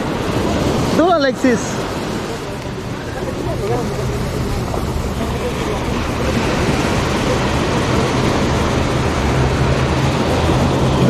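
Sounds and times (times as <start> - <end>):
ocean surf breaking on sand: 0.0 - 11.0.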